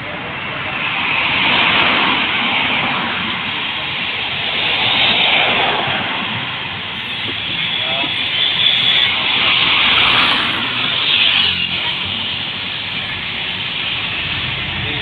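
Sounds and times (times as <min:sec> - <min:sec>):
passing traffic: 0:00.0 - 0:15.0
wind and tyre road noise: 0:00.0 - 0:15.0.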